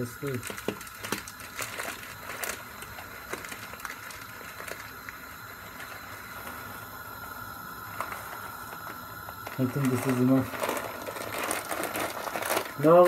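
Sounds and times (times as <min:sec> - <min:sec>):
boiling pot and burner hiss: 0:00.0 - 0:13.0.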